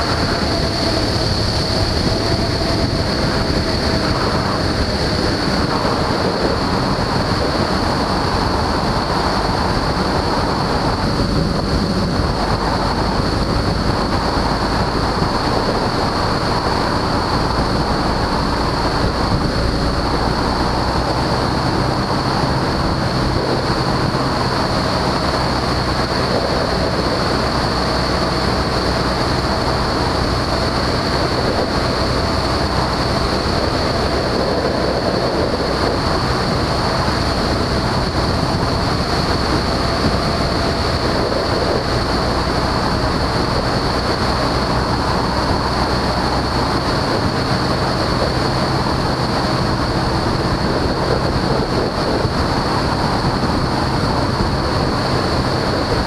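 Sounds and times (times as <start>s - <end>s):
light aircraft engine drone: 0.0s - 56.0s
wind noise rushing: 0.0s - 56.0s.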